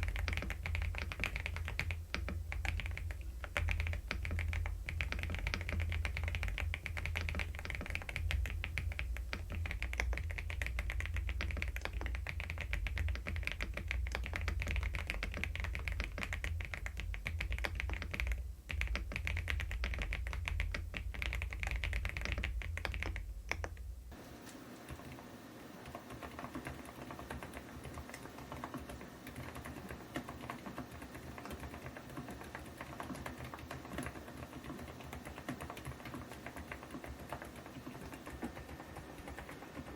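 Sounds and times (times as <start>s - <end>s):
mechanical keyboard typing: 0.0s - 23.8s, 24.8s - 39.9s.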